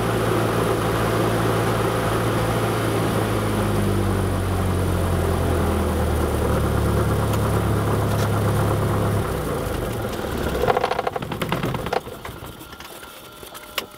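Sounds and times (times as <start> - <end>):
engine and propeller rattle: 0.0 - 13.9.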